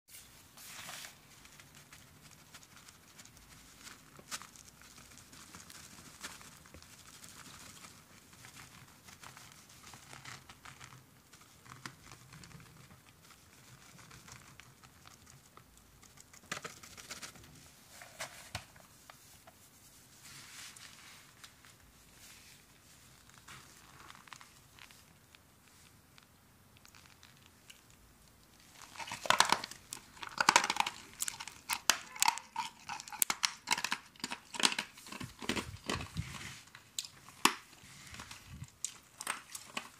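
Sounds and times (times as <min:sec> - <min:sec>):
soft rustling of powder: 0:00.1 - 0:32.9, 0:34.0 - 0:39.9.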